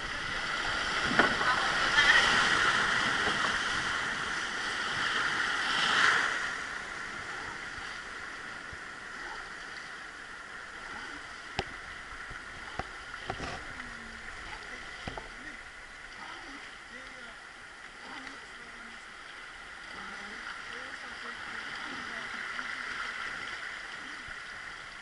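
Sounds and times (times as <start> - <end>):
river water rushing around boat: 0.0 - 25.0.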